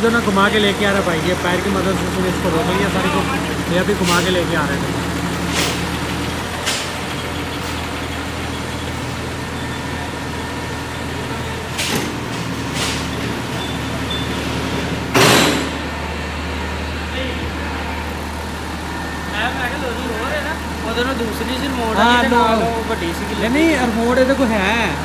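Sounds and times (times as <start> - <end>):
lorry engine running: 0.0 - 25.0.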